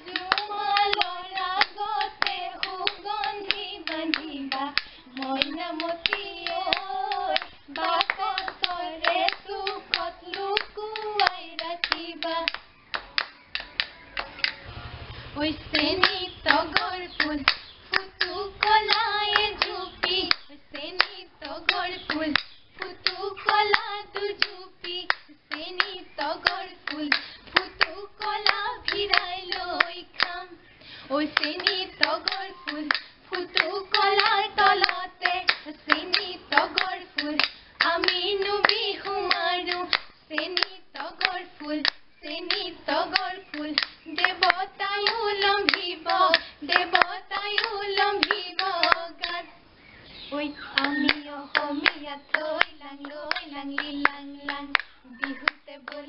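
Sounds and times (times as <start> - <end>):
women singing: 0.0 - 14.5, 15.2 - 49.6, 50.2 - 56.0
rhythmic hand-clapping: 0.0 - 14.7, 15.4 - 30.5, 31.1 - 49.5, 50.7 - 56.0.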